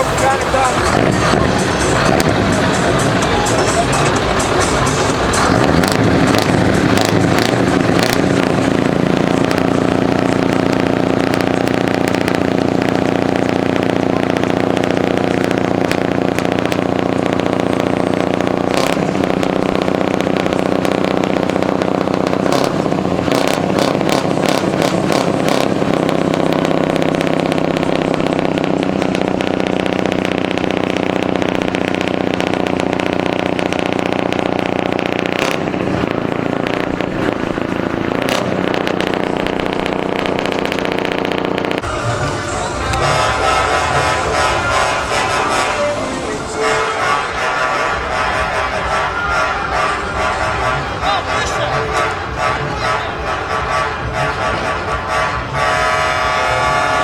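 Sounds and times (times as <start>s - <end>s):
large truck engine running: 0.0s - 57.0s.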